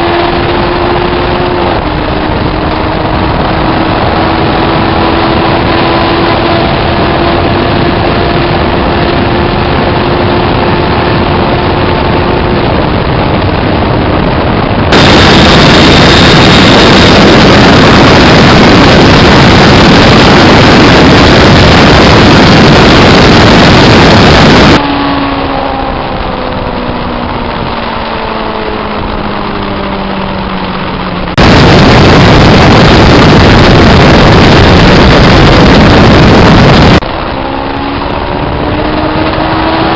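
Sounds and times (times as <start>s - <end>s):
loud rushing noise: 0.0s - 39.9s
motorcycle engine running: 0.0s - 39.9s.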